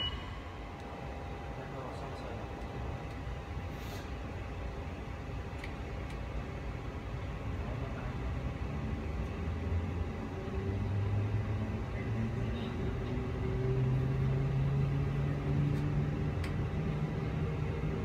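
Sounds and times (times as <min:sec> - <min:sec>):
train traction motors humming: 0:00.0 - 0:18.0.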